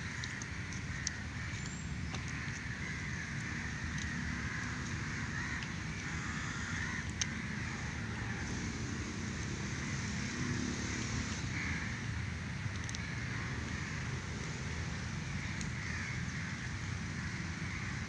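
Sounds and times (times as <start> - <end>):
crows cawing: 0.0 - 8.8, 9.7 - 12.2, 12.8 - 18.0
steady low rumble: 0.0 - 18.0.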